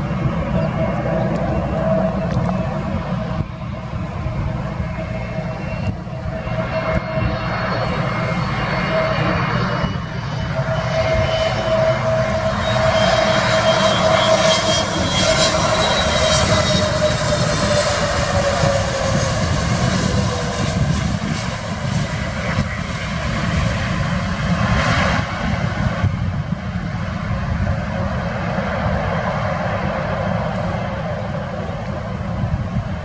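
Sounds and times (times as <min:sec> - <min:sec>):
jet engines rumbling and whining: 0:00.0 - 0:33.0.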